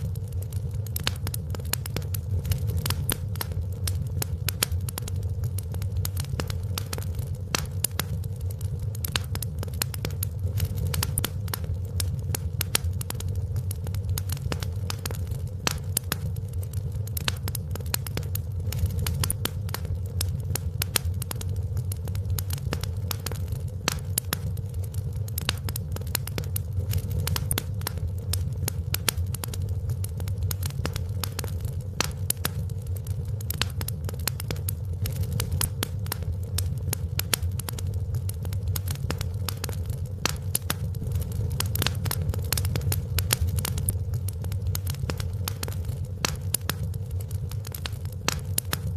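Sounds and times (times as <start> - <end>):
fireplace fire crackling and popping: 0.0 - 48.9.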